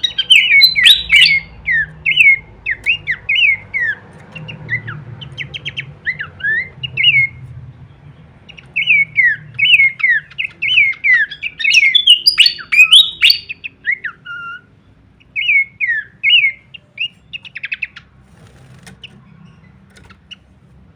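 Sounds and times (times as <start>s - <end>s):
bird whistled song: 0.0s - 7.4s, 8.4s - 18.1s.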